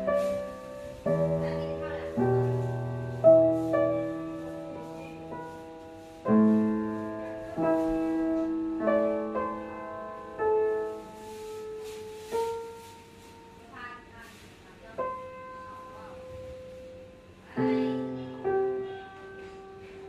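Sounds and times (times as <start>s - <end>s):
slow piano melody: 0.0s - 13.8s, 14.9s - 20.0s.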